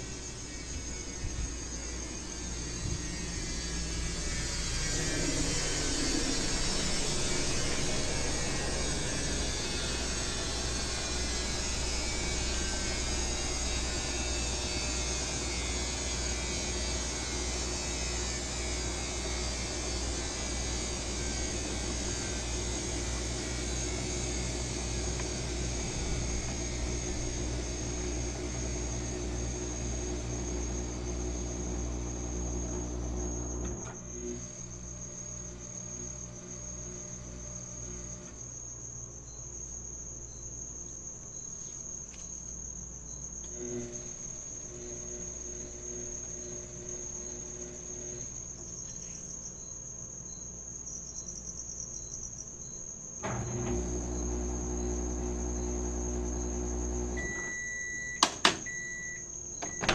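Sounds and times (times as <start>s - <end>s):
washing machine motor humming: 0.0s - 38.4s, 43.5s - 48.4s, 53.2s - 59.9s.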